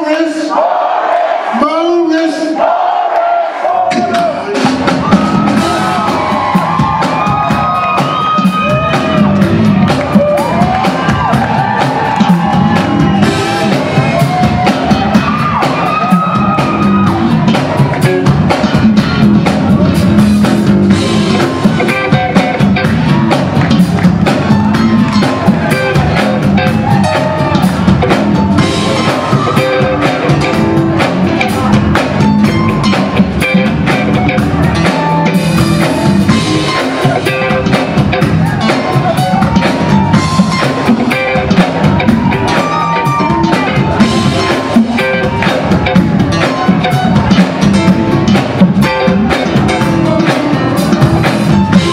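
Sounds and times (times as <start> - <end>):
crowd cheering: 0.0 - 51.9
live funk band playing: 3.9 - 51.9.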